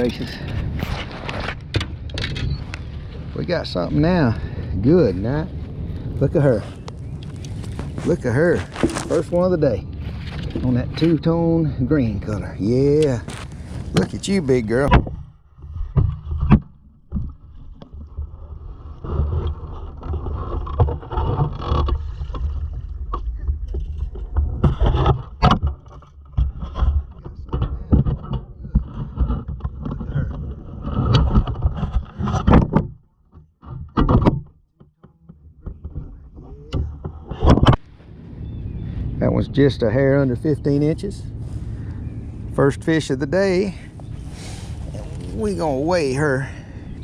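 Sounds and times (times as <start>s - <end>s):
low rumble: 0.0s - 32.2s, 35.4s - 47.0s.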